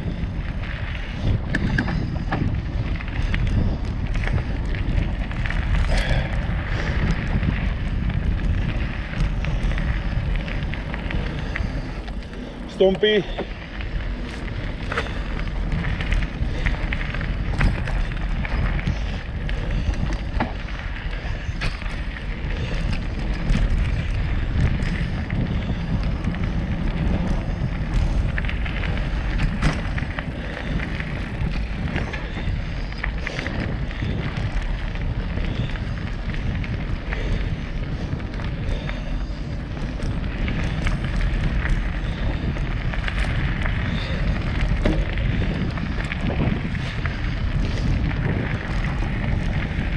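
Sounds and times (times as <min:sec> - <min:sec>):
bike clicks and rattles: 0:00.0 - 0:49.9
bike tyre noise: 0:00.0 - 0:49.9
wind rumble on microphone: 0:00.0 - 0:49.9.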